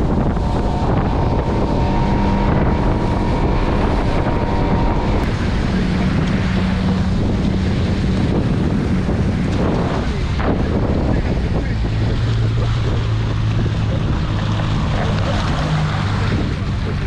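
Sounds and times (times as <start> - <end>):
boat motor hum: 0.0 - 17.0
wind buffeting microphone: 0.0 - 17.0.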